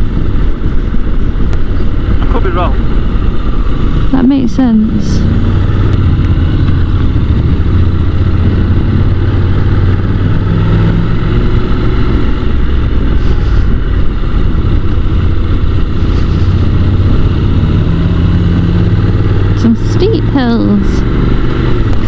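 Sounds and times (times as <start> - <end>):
motorcycle engine running: 0.0 - 22.0
wind rushing on microphone: 0.0 - 22.0.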